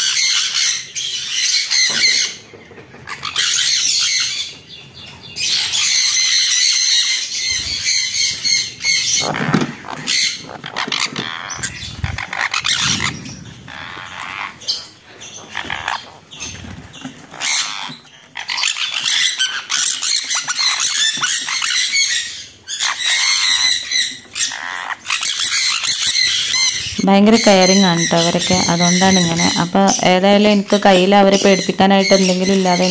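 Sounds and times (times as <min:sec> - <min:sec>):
parrots screeching and squawking: 0:00.0 - 0:32.9.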